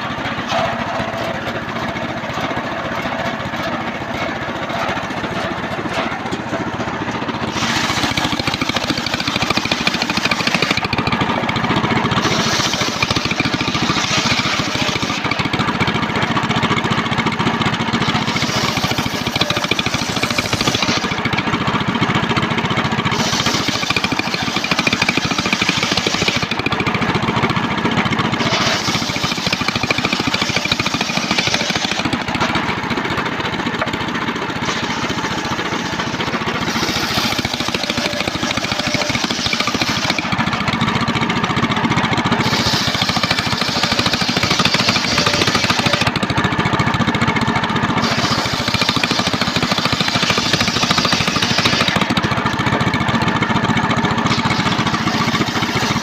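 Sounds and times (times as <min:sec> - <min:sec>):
circular sawmill sawing logs: 0:00.0 - 0:56.0.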